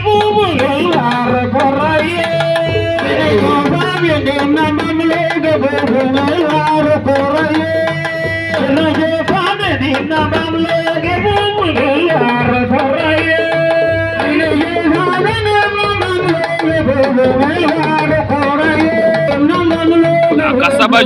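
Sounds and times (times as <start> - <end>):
hand drums fast rhythm: 0.0 - 21.0
voices singing: 0.0 - 21.0.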